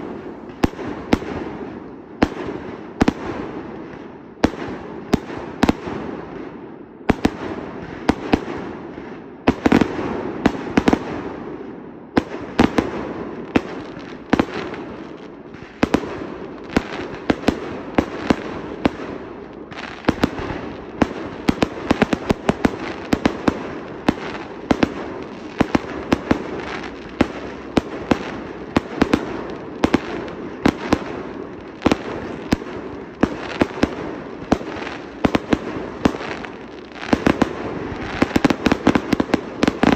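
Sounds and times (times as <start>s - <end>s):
firework bangs: 0.0s - 39.9s
hiss of burning fireworks: 0.0s - 39.9s.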